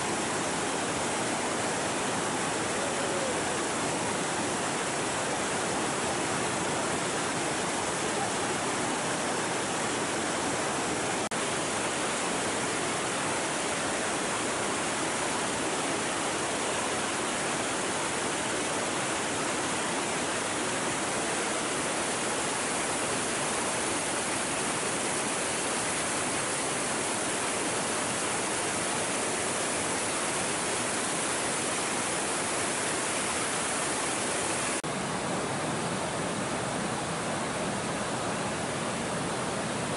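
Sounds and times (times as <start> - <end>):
river current rushing: 0.0 - 39.9.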